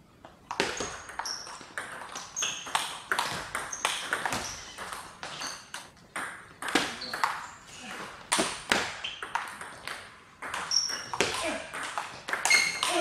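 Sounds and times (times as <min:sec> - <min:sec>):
table tennis ball hits: 0:00.5 - 0:13.0.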